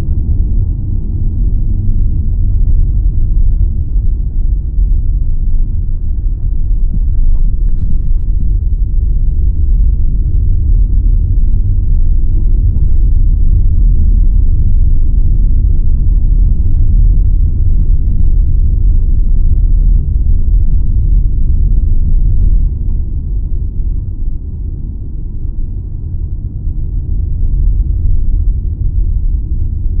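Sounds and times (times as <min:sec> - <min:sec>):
road and wind noise in vehicle: 0:00.0 - 0:30.0.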